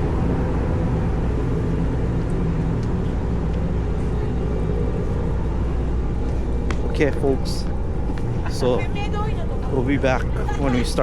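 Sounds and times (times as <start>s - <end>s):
ferry engines droning: 0.0s - 11.0s.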